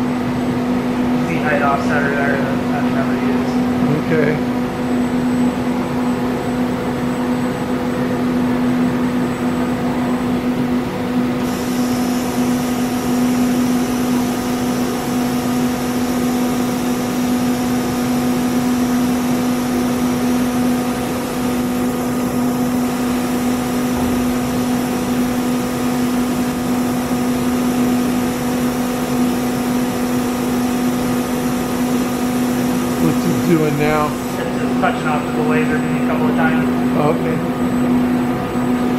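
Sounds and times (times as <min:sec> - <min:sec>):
cnc router humming: 0:00.0 - 0:38.9.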